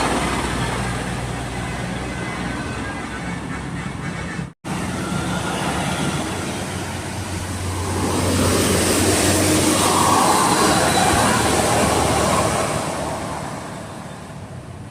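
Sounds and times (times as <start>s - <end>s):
buses and traffic passing: 0.0s - 14.9s.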